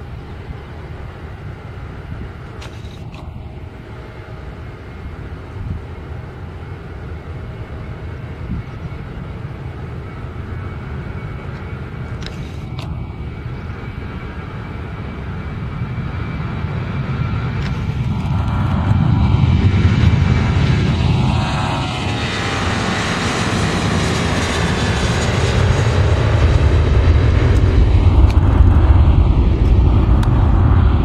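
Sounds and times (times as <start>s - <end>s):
jet engine rumble: 0.0s - 31.0s.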